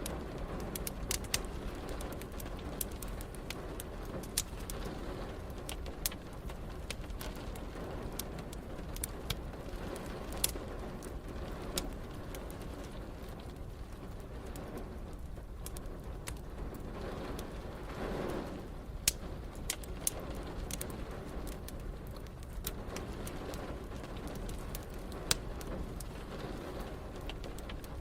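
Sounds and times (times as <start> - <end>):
rain: 0.0 - 28.0
wood fire crackling and popping: 0.0 - 28.0.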